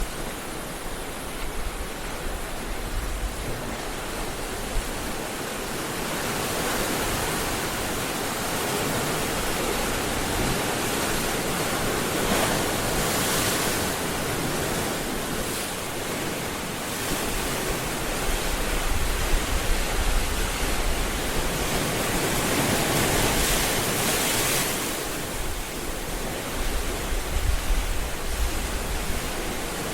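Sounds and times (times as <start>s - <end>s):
waves breaking on a beach: 0.0s - 29.9s.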